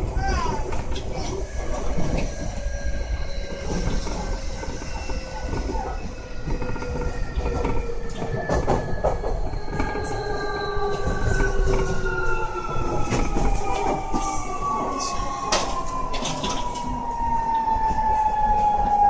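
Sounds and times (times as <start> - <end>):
wheel and rail noise: 0.0 - 19.0.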